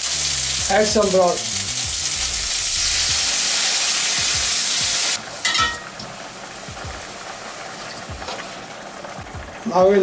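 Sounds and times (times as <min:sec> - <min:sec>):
broth sizzling in hot oil: 0:00.0 - 0:10.0.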